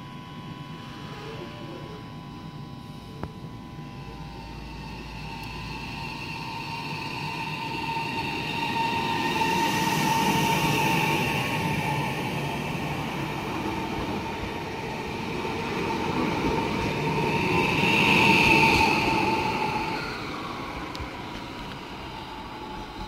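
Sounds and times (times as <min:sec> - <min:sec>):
train whine: 0:00.0 - 0:23.0
train wheels rumbling on rail: 0:04.2 - 0:23.0.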